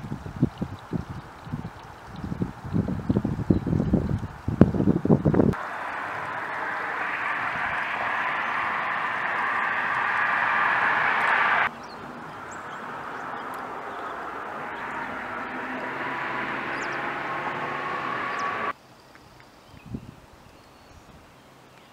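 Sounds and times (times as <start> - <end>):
vehicle engine and tyre noise: 0.3 - 18.8.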